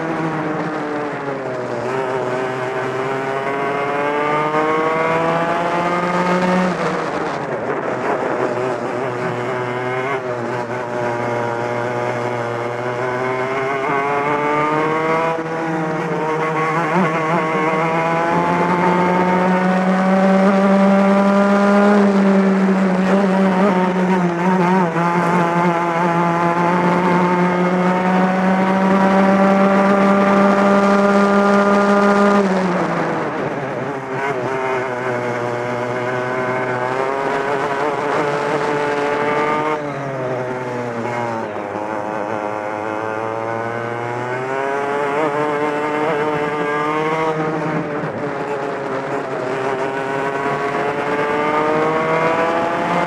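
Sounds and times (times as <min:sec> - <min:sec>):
kart engine revving: 0:00.0 - 0:53.0.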